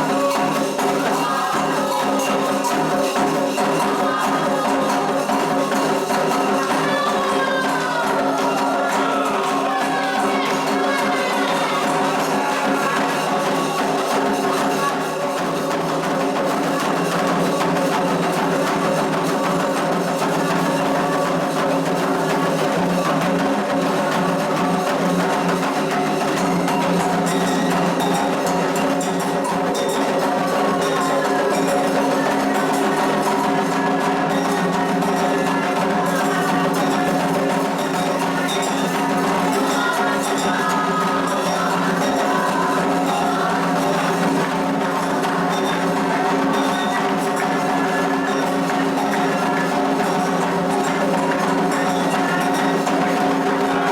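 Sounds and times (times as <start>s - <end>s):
ritual drumming: 0.0s - 53.9s.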